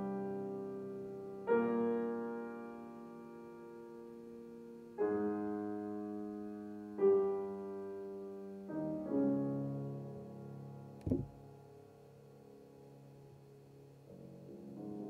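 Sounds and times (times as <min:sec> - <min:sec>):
piano playing soft chords: 0:00.0 - 0:15.0.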